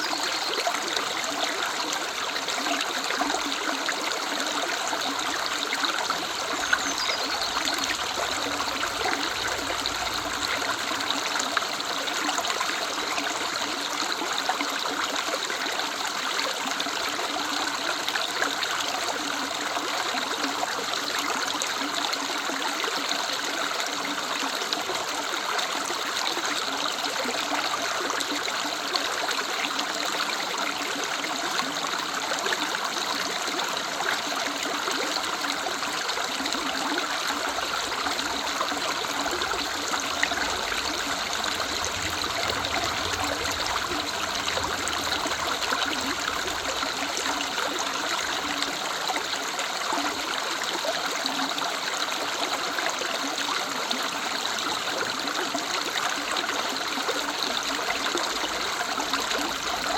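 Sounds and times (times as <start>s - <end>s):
river water rushing and trickling: 0.0s - 59.9s.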